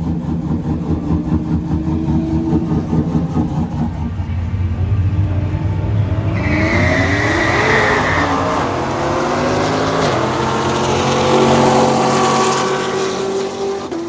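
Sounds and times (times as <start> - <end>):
racing engine accelerating: 0.0 - 14.0.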